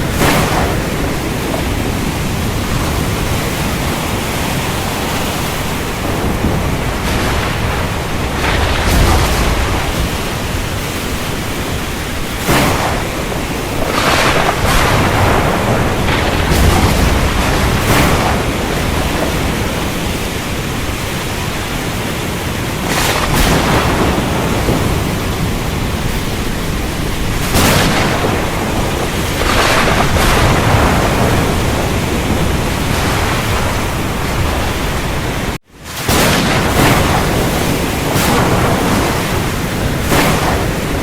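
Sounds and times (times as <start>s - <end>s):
heavy rain hiss: 0.0s - 41.0s
thunder rumble: 0.0s - 41.0s.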